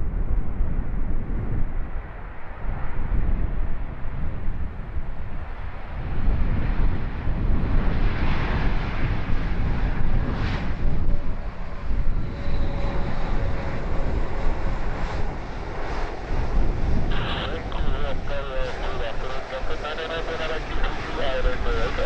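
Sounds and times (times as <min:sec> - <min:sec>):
wind buffeting microphone: 0:00.0 - 0:22.0
jet engines on approach: 0:00.4 - 0:22.0.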